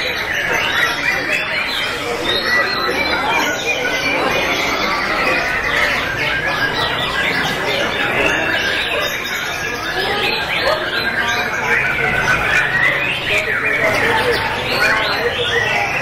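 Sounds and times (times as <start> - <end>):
birds whistling and trilling: 0.0 - 16.0.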